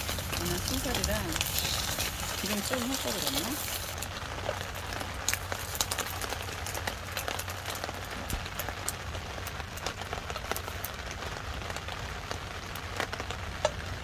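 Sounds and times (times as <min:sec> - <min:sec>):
rain pattering on a surface: 0:00.0 - 0:14.0.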